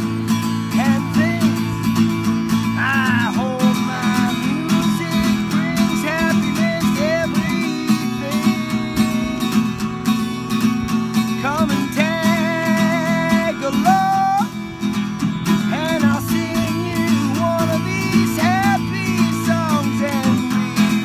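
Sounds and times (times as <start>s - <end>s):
acoustic guitar strumming: 0.0s - 21.0s
man singing: 0.7s - 9.8s, 11.3s - 14.7s, 15.5s - 21.0s.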